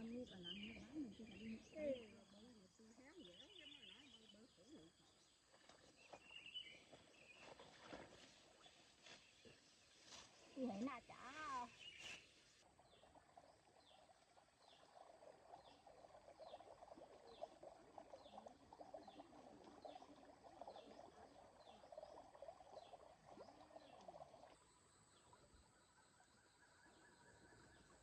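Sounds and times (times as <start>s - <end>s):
faint frog chorus: 0.0s - 28.0s.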